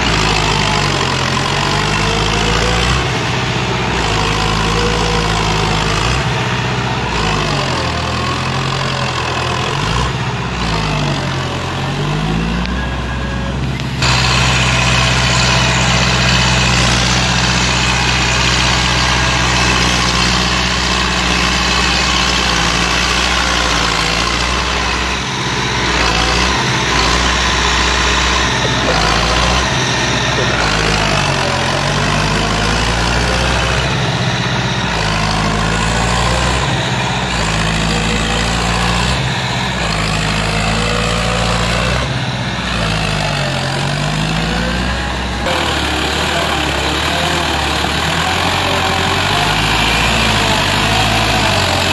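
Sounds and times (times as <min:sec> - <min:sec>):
heavy vehicle engine running: 0:00.0 - 0:51.9.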